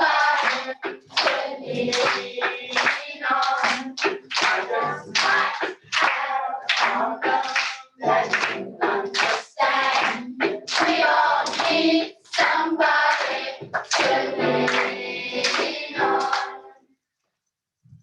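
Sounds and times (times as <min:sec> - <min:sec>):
group singing: 0:00.0 - 0:16.9.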